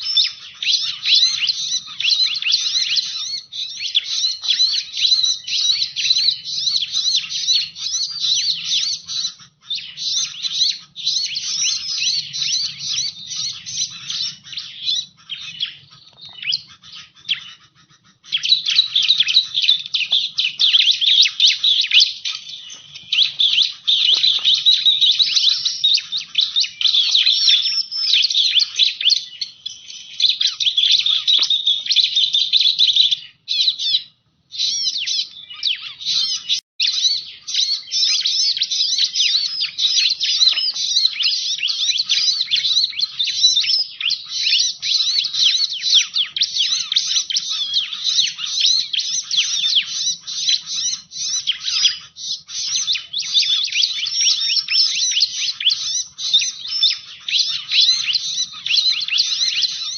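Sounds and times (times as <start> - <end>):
bird chirping and twittering: 0.0 - 59.9.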